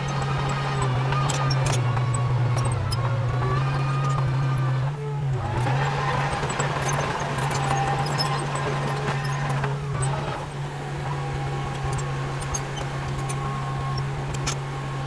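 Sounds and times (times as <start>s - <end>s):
heavy machinery diesel engine: 0.0s - 15.0s.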